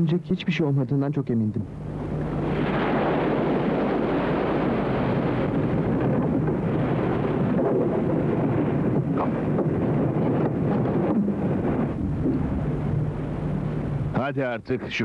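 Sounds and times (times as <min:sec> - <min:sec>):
wind and sea rushing: 0:01.6 - 0:15.0.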